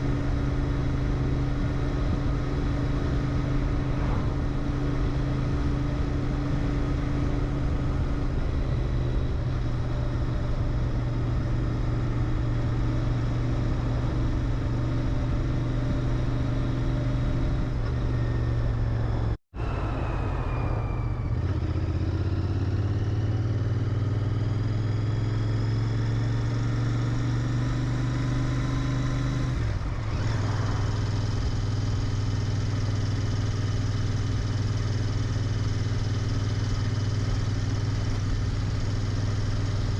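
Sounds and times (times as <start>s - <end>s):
motorcycle engine running: 0.0s - 19.3s, 21.2s - 39.9s.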